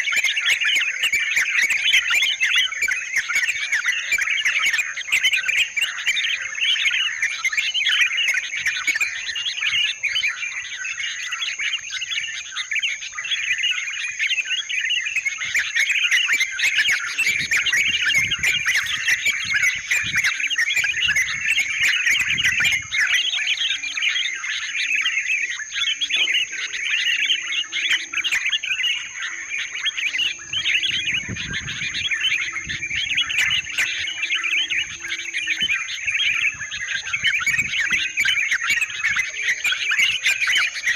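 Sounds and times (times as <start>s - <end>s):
birds chattering and calling: 0.0s - 40.9s.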